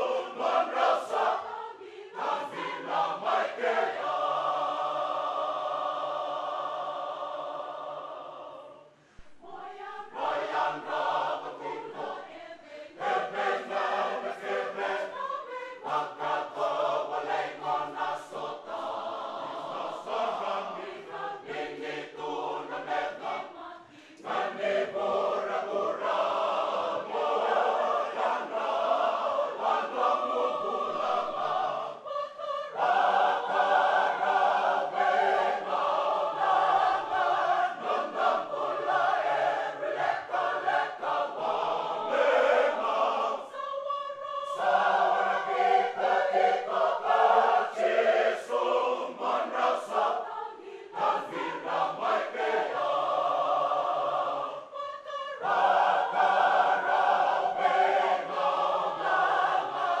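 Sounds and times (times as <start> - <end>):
choir singing a hymn unaccompanied: 0.0 - 60.0.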